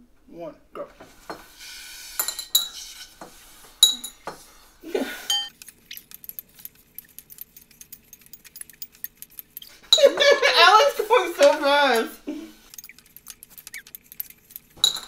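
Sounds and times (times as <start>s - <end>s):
candy clinking in ceramic bowls: 1.0s - 15.0s.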